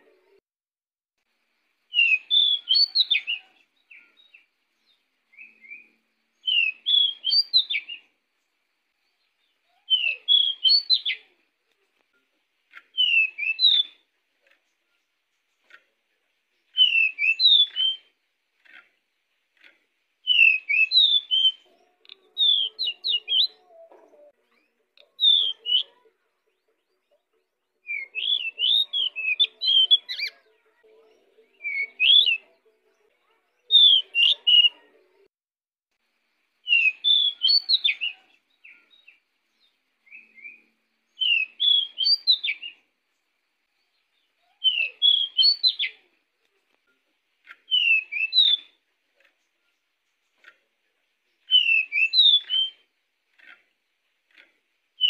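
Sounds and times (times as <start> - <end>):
bird singing warbling phrases: 1.8 - 35.3, 36.6 - 55.0.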